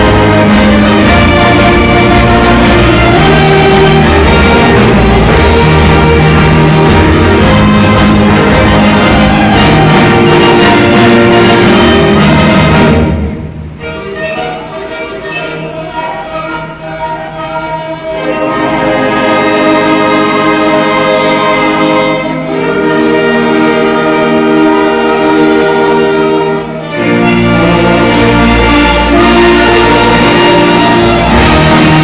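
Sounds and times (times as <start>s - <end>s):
orchestra and band playing: 0.0s - 32.0s.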